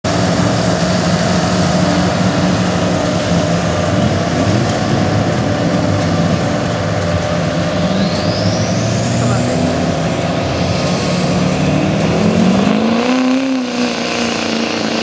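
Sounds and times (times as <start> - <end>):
diesel pickup engine under load: 0.0 - 15.0.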